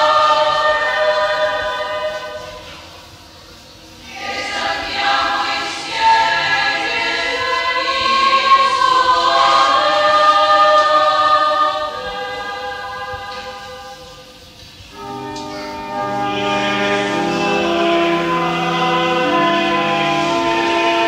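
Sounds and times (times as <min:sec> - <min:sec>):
women's choir singing a hymn: 0:00.0 - 0:21.0.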